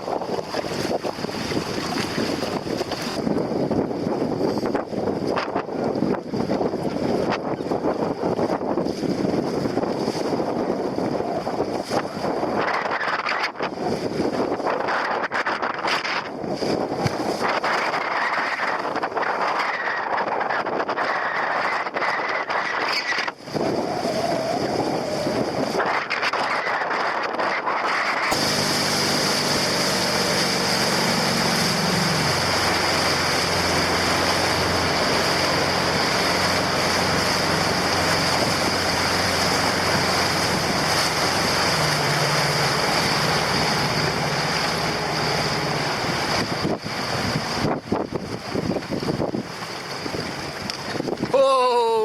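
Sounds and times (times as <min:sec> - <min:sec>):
water rushing: 0:00.0 - 0:52.0
wind buffeting microphone: 0:00.0 - 0:52.0.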